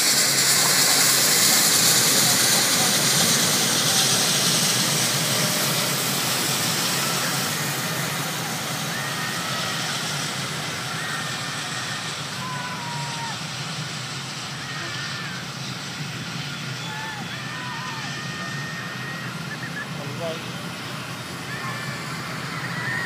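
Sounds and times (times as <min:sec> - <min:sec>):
steam train passing at speed: 0:00.0 - 0:23.0.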